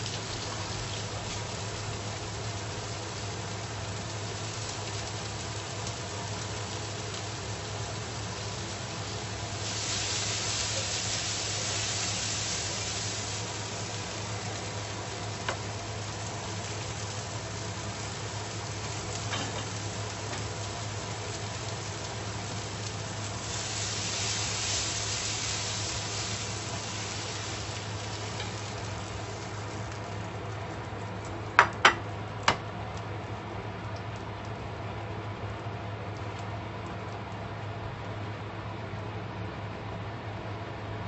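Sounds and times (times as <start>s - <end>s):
vegetables sizzling in a frying pan: 0.0s - 38.3s.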